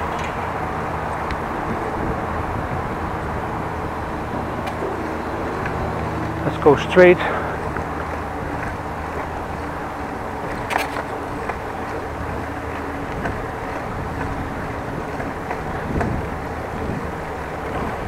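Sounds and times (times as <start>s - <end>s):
bicycle tyres rolling: 0.0s - 18.0s.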